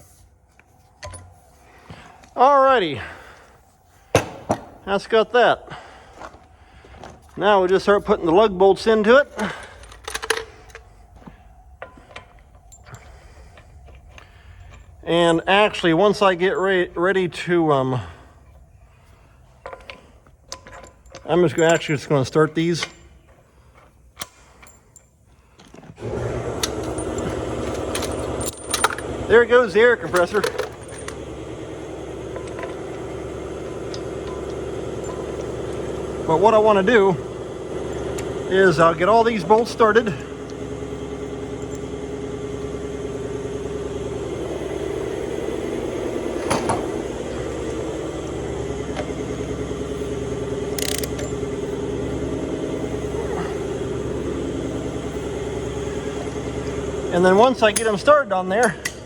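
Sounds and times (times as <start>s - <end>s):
air compressor humming: 0.0s - 59.0s.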